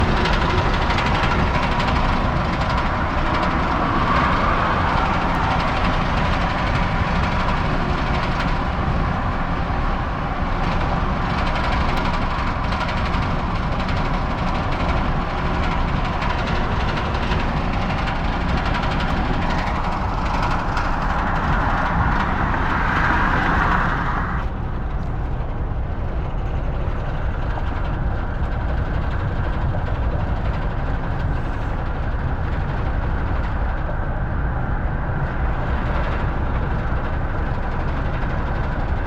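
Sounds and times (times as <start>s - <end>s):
diesel engine knocking: 0.0s - 39.0s.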